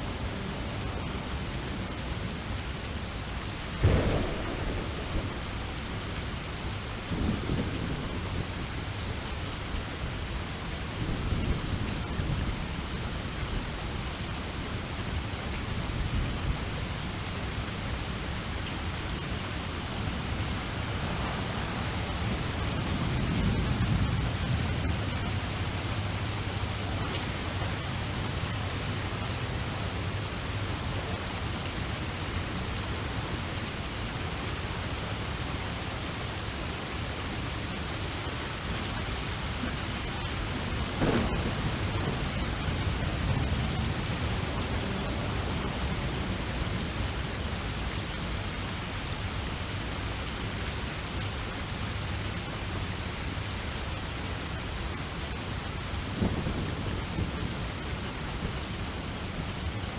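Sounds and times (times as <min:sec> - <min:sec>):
steady rainfall: 0:00.0 - 0:59.9
thunderclap and rolling rumble: 0:00.1 - 0:35.6, 0:37.3 - 0:48.6, 0:55.3 - 0:59.8.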